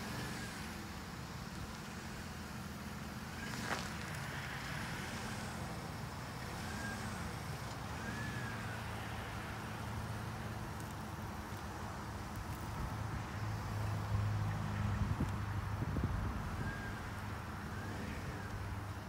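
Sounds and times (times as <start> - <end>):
van engine running: 0.0 - 19.0.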